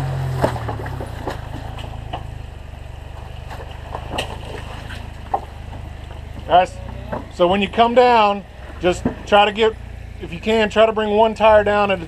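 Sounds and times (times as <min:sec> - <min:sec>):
car engine crawling: 0:00.0 - 0:12.0.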